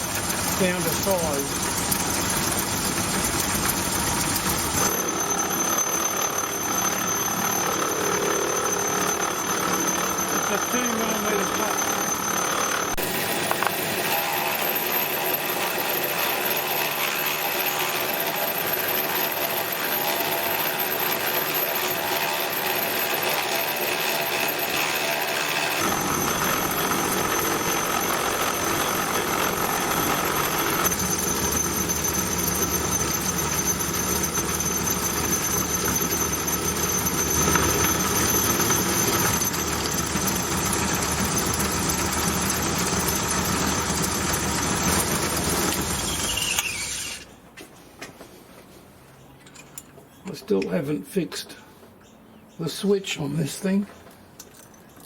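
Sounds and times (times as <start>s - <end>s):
milling machine whining: 0.0s - 47.4s.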